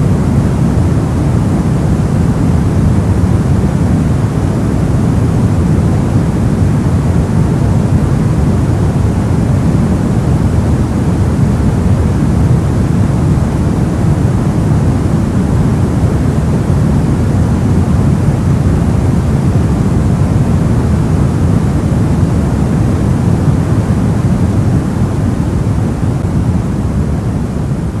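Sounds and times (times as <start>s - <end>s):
deep white noise: 0.0s - 28.0s.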